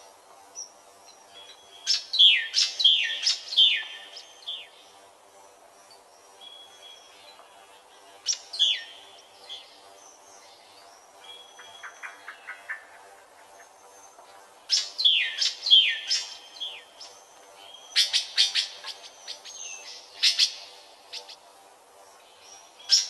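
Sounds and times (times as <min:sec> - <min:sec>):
bird calling with falling notes: 0:01.3 - 0:05.0, 0:06.4 - 0:21.4.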